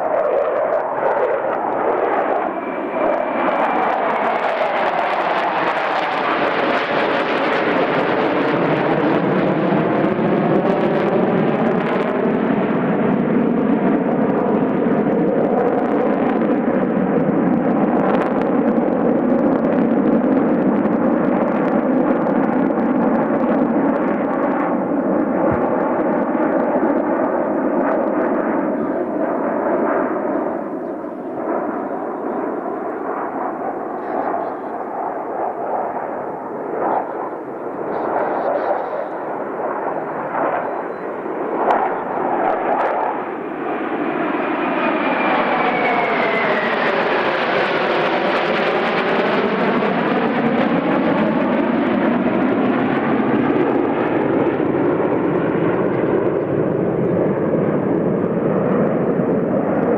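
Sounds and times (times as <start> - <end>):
fighter jets flying past: 0.0 - 59.9.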